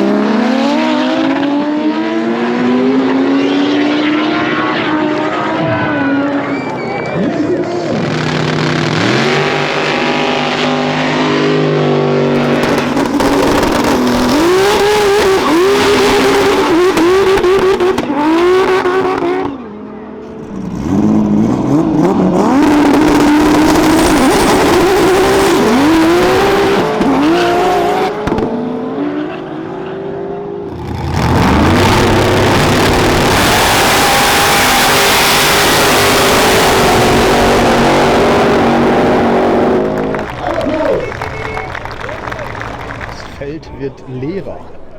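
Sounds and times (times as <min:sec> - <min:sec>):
cars accelerating hard: 0:00.0 - 0:43.5.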